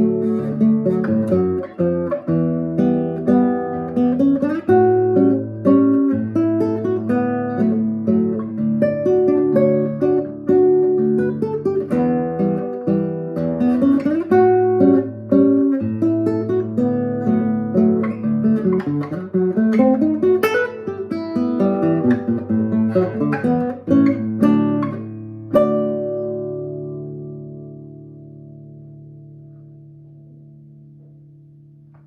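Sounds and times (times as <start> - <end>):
classical guitar playing: 0.0 - 32.0.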